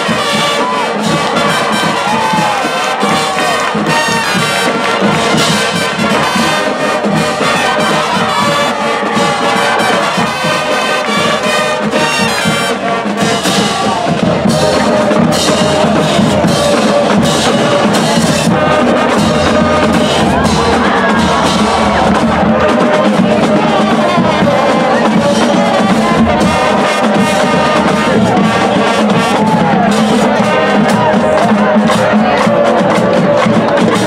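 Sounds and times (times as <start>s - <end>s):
brass band playing: 0.0s - 34.0s
flutes: 0.0s - 34.0s
snare drums: 0.0s - 34.0s.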